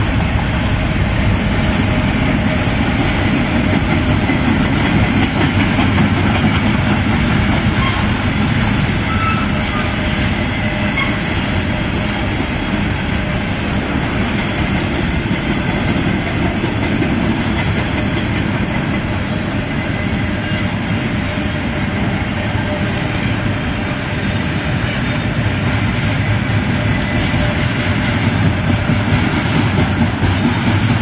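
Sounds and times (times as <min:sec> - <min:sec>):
train wheels running on rails: 0:00.0 - 0:31.0.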